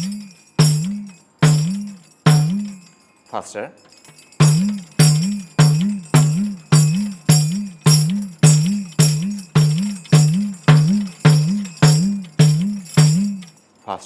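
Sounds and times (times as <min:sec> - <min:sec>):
tambourine bass strokes: 0:00.0 - 0:03.0, 0:04.0 - 0:13.6
tambourine jingles rattling: 0:00.0 - 0:14.0.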